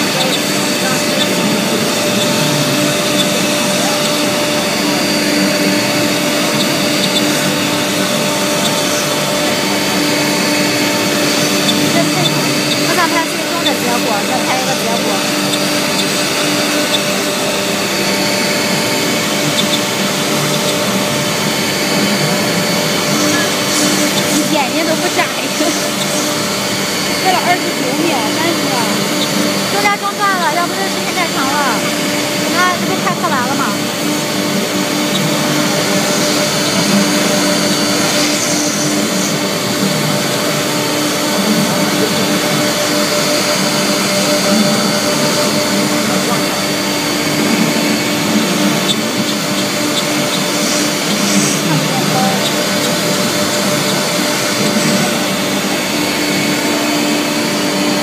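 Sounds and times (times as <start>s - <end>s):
cnc router cutting a panel: 0.0s - 58.0s.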